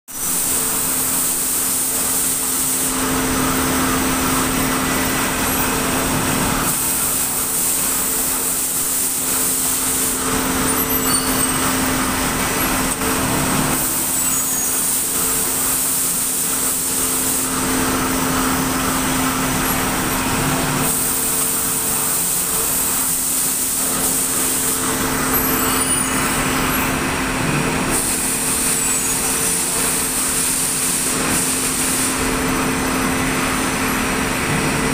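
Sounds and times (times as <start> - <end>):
factory machinery humming: 0.2 - 34.9.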